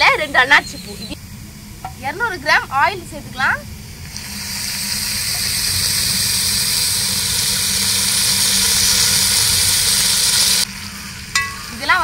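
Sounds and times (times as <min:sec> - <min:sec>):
onions and spices sizzling in oil: 0:01.8 - 0:12.0.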